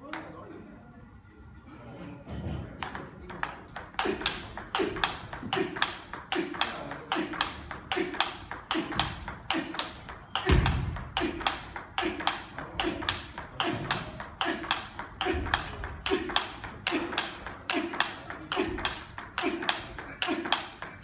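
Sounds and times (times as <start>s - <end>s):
ball bouncing on table: 2.8s - 21.0s
table tennis ball on paddles: 2.8s - 21.0s.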